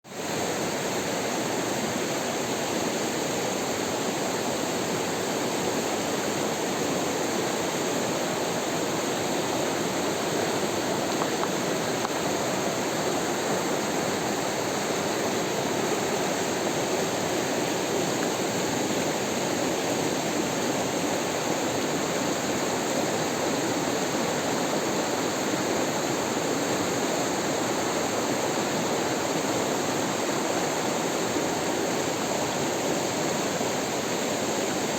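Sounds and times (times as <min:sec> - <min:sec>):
flowing water rushing: 0:00.2 - 0:34.9.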